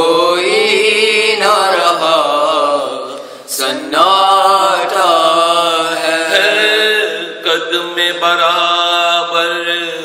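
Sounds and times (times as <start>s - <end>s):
men chanting a lament: 0.0s - 10.0s.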